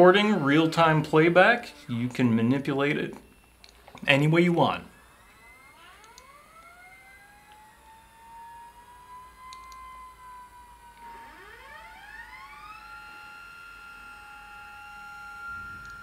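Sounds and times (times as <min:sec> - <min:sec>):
stepper motor whining: 0:00.0 - 0:16.0.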